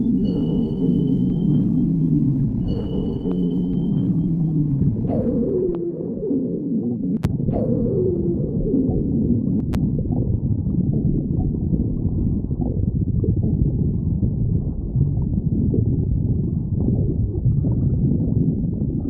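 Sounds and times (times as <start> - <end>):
stomach growling and gurgling: 0.0 - 19.0.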